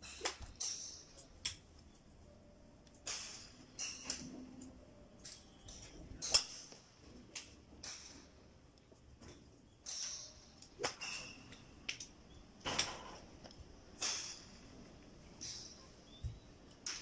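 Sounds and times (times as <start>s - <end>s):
golf clubs striking balls: 0.0s - 17.0s.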